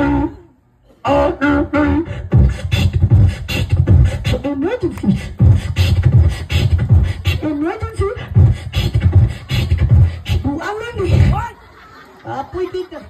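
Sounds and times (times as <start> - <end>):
beatboxing into a microphone: 0.0 - 11.6
sliding vocal tones: 0.0 - 11.6.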